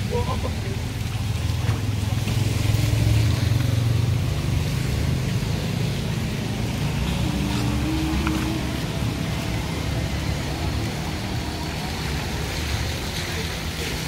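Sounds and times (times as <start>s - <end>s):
heavy rain hiss: 0.0s - 14.0s
vehicle engine humming: 0.0s - 14.0s.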